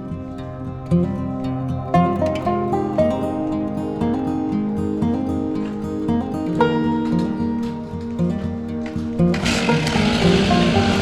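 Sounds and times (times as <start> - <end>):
acoustic guitar strummed and plucked: 0.0 - 11.0.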